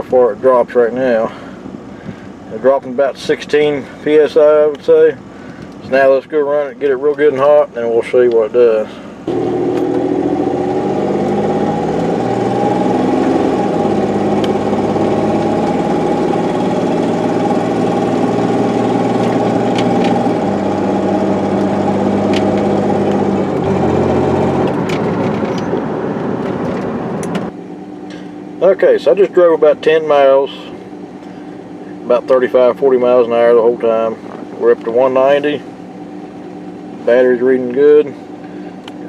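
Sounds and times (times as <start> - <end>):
car engine running from inside: 0.0 - 39.0.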